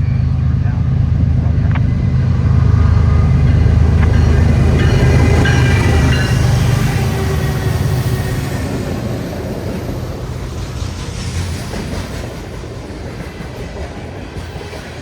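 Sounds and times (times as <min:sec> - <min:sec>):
diesel locomotive engines droning: 0:00.0 - 0:15.0
train rumbling on rails: 0:00.0 - 0:15.0.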